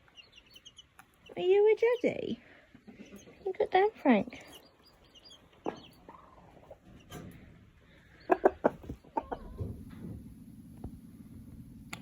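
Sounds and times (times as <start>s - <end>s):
chickens clucking: 0.0s - 10.3s
low steady hum: 2.1s - 12.0s.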